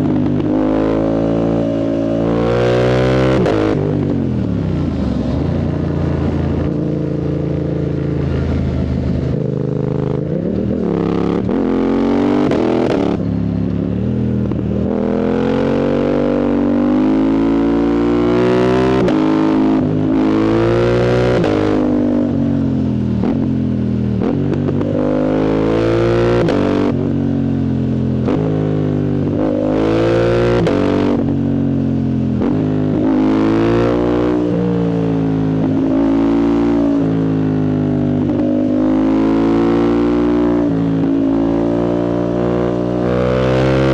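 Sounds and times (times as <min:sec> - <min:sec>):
motorcycle engine revving hard: 0:00.0 - 0:07.5, 0:08.2 - 0:13.6, 0:14.4 - 0:23.6, 0:24.2 - 0:27.6, 0:28.2 - 0:43.9.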